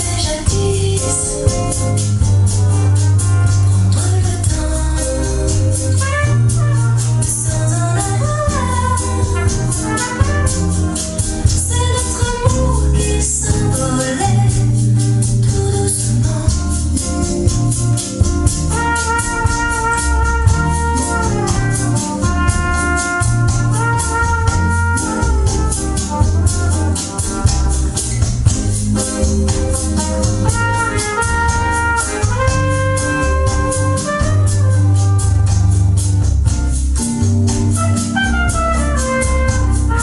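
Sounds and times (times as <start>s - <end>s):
fast beat with heavy bass: 0.0s - 40.0s
music over speakers: 0.0s - 40.0s.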